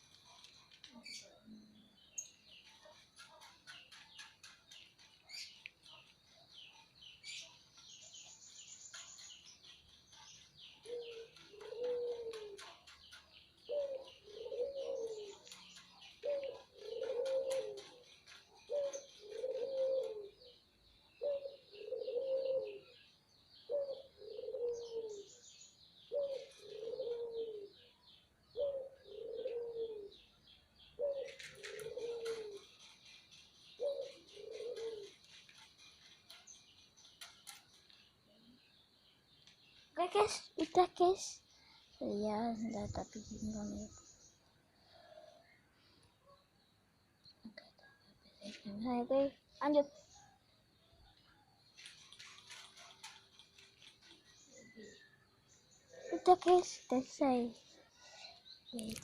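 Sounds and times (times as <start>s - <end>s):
birds chirping high-pitched: 0.0s - 59.0s.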